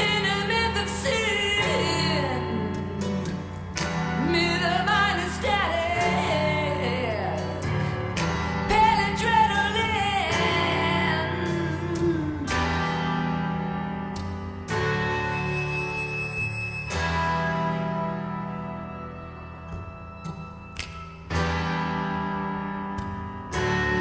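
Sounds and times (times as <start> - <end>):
song with gliding sung melody: 0.0 - 24.0.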